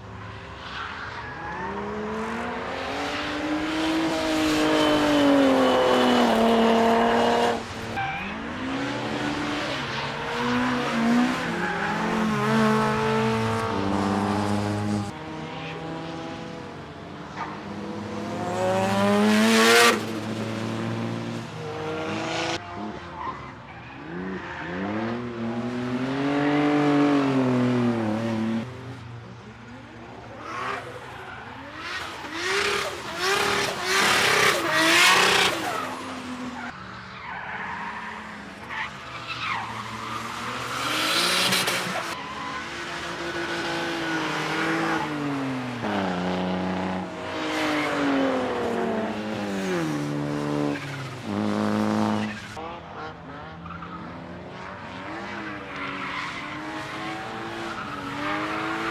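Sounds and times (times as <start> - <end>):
race car engines revving past: 1.4 - 58.9.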